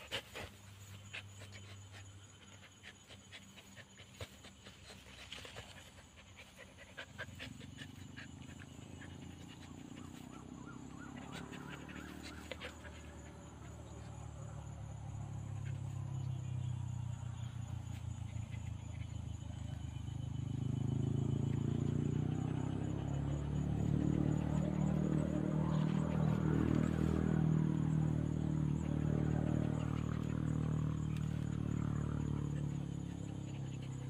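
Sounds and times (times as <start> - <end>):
low engine drone: 4.7 - 34.0.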